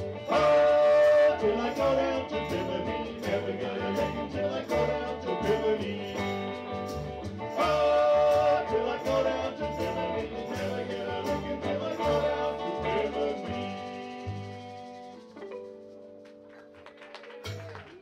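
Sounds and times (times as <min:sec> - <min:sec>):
calypso band playing: 0:00.0 - 0:16.5, 0:17.4 - 0:18.0.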